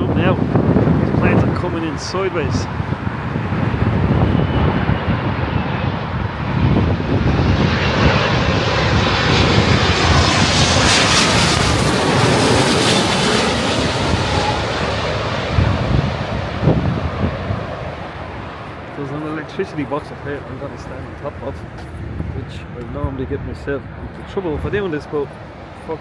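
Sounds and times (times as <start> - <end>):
jet airliner flying low overhead: 0.0 - 26.0.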